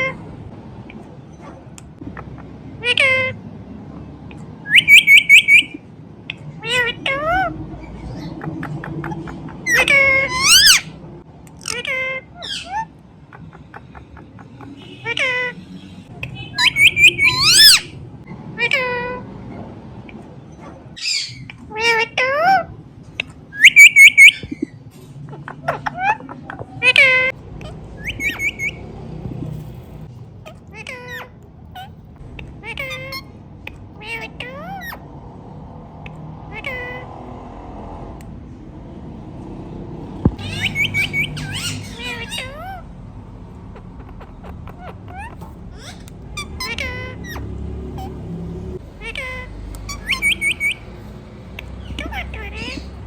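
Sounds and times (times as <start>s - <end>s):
parrot calling: 0.9s - 3.4s, 4.4s - 24.8s, 25.4s - 35.2s, 35.8s - 37.4s, 39.4s - 53.0s
parrot chirps: 4.6s - 19.2s, 20.0s - 24.8s, 25.6s - 35.2s, 35.9s - 37.1s, 40.2s - 53.0s.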